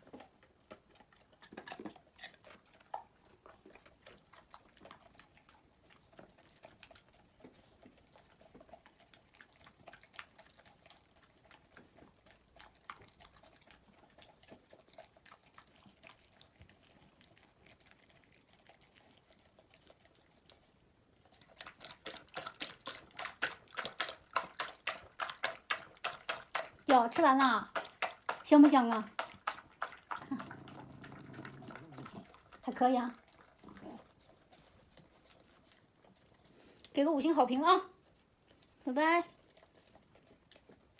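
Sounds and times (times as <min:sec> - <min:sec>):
animal chewing and licking: 0:00.0 - 0:40.9
animal lapping: 0:00.0 - 0:40.9.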